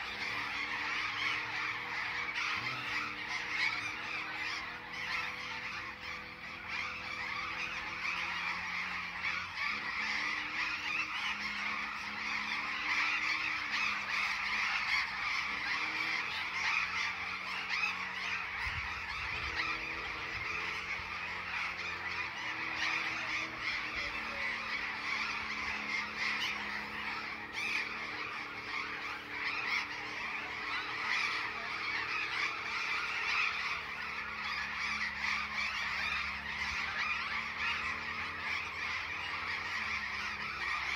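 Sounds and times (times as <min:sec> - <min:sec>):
parrots screeching: 0:00.0 - 0:40.9.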